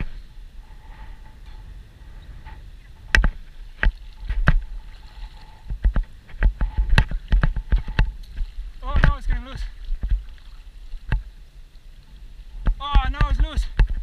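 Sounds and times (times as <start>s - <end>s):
water splashing: 0.0s - 13.8s
moving water wash: 0.0s - 14.0s.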